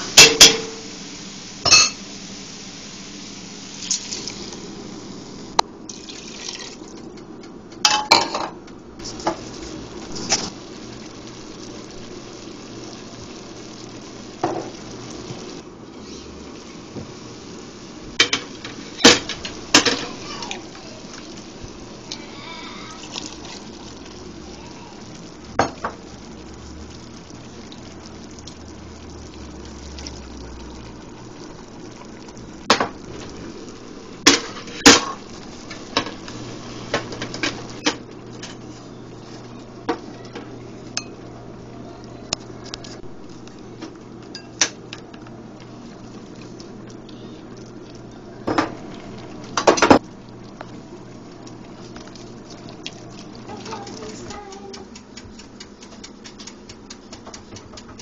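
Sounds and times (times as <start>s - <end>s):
steady low hum: 8.4s - 57.8s.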